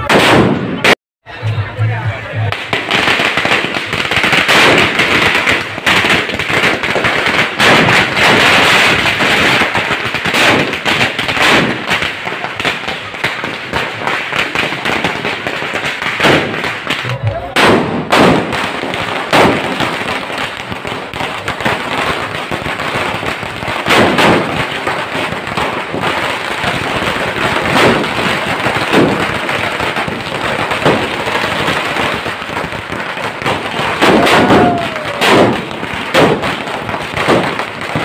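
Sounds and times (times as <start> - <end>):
firecracker bangs: 0.0 - 1.0, 2.4 - 38.0
firecrackers crackling: 0.0 - 38.0.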